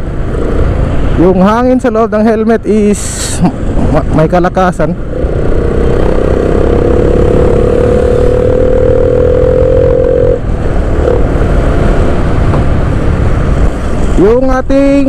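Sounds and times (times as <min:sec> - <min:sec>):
motorcycle engine hum: 0:00.0 - 0:15.0
wind rushing over microphone: 0:00.0 - 0:15.0.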